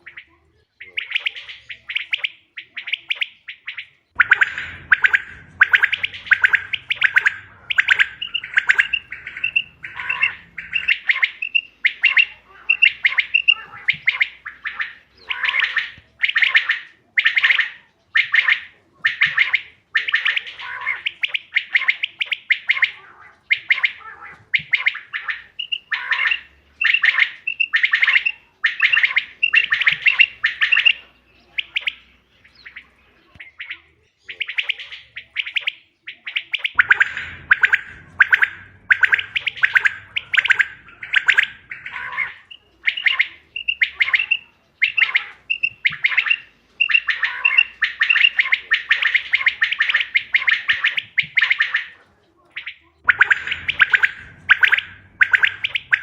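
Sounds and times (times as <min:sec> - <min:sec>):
quail chirping calls: 0:00.0 - 0:56.0.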